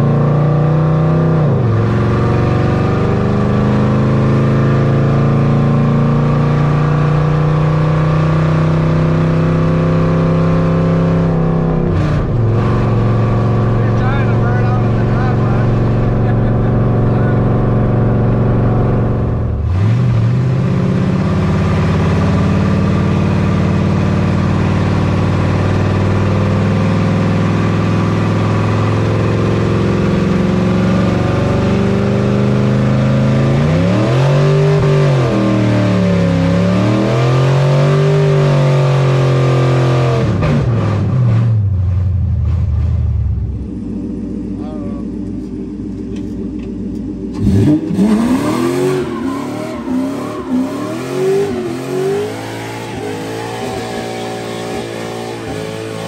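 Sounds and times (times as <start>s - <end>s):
pickup engine from inside cab: 1.5s - 33.8s, 40.2s - 55.6s.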